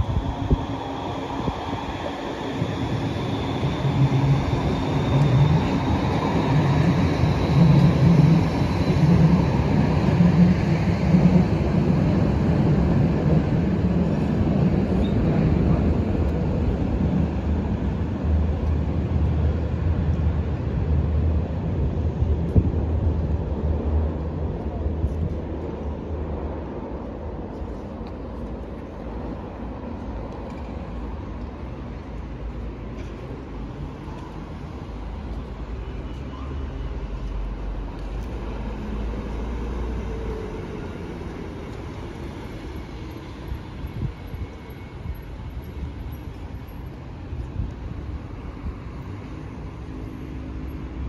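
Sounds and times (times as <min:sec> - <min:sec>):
tram wheels rumbling on rails: 0:00.0 - 0:51.0.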